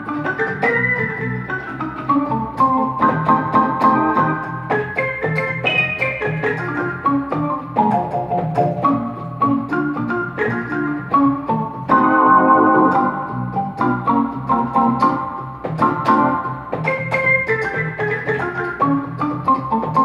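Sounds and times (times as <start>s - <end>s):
electronic keyboard chords: 0.0s - 20.0s.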